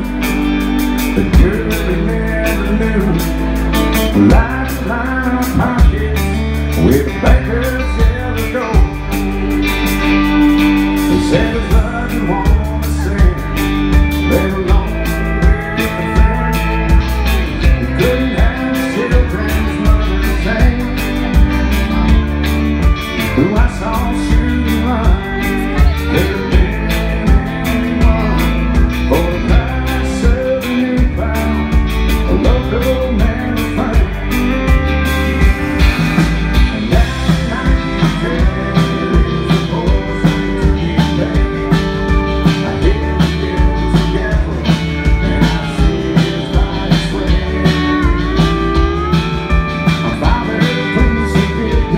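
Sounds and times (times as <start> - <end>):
bass guitar: 0.0 - 51.9
drums: 0.0 - 51.9
electric guitar: 0.0 - 51.9
pedal steel guitar: 0.0 - 51.9.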